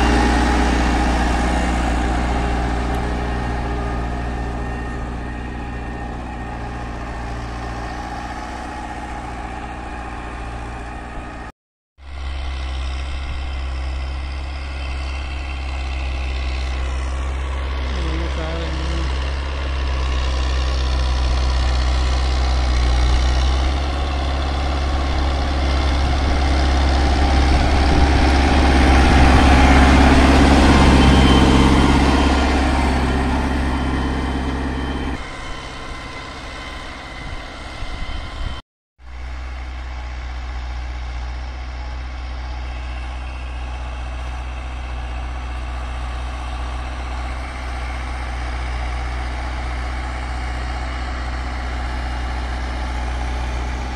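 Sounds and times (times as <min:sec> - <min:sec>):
tractor diesel engine drone: 0:00.0 - 0:53.9.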